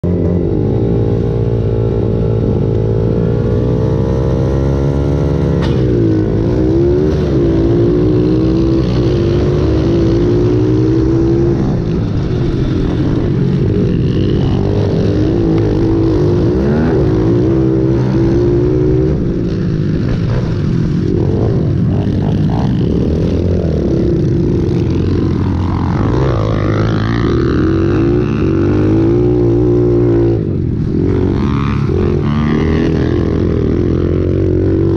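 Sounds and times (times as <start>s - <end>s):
motorbike engine revving: 0.0s - 34.9s
other motorbike engines: 0.0s - 34.9s.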